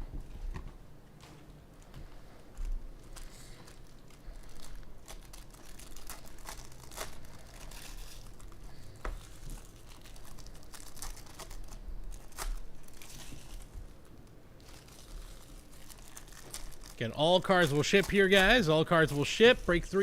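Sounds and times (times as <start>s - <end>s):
wrappers crinkling and tearing: 2.9s - 20.0s.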